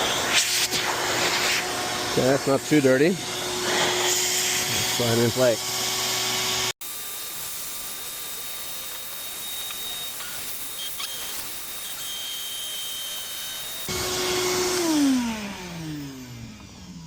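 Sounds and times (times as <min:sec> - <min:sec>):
shop vac blowing with whine: 0:00.0 - 0:17.0
motor winding down: 0:01.6 - 0:17.0.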